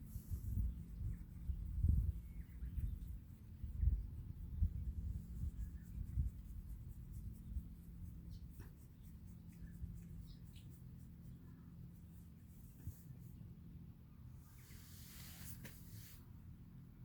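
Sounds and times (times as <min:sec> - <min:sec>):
brush rubbing cat fur: 0:00.0 - 0:13.5, 0:14.4 - 0:16.4.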